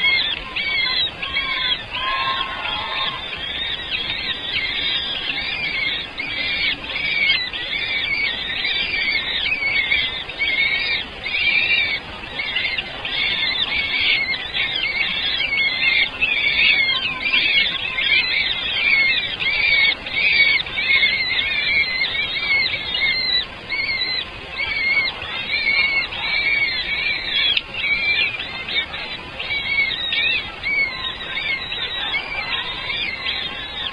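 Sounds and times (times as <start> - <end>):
nestling birds chirping: 0.0 - 33.9.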